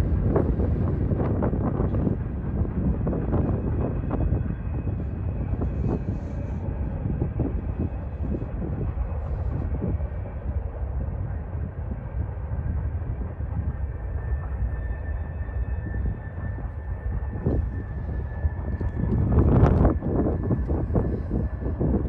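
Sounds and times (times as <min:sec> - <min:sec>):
distant freight train rumbling: 0:00.0 - 0:22.0
wind buffeting microphone: 0:00.0 - 0:22.0.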